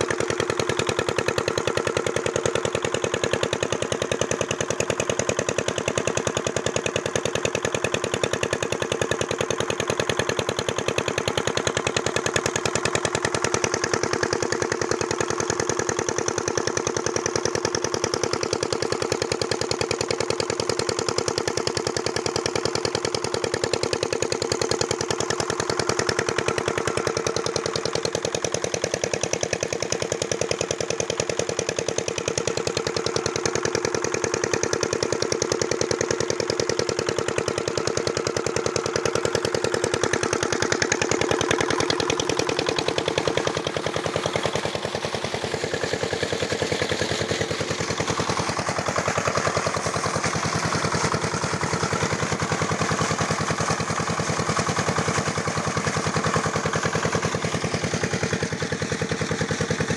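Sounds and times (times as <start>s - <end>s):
diesel pump engine chugging: 0.0s - 59.9s.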